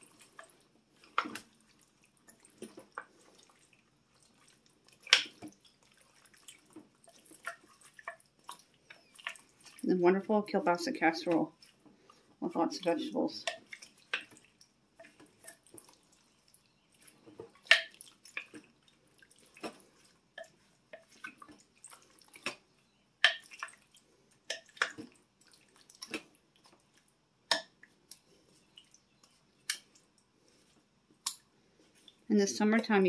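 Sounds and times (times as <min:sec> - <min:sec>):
wet food being stirred: 0:00.0 - 0:33.0.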